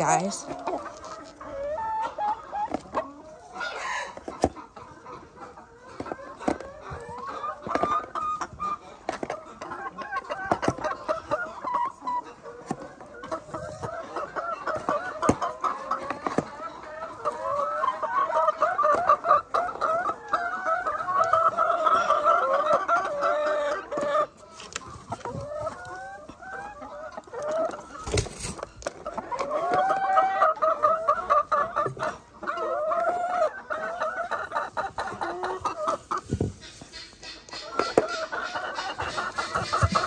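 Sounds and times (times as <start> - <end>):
hens clucking loudly: 0.0 - 40.0.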